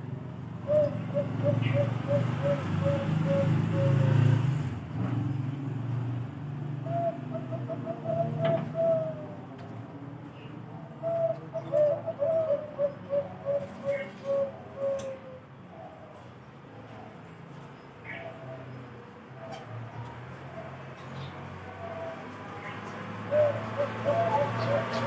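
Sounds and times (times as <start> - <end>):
dove cooing: 0.0 - 4.5, 6.8 - 17.3, 18.0 - 25.0.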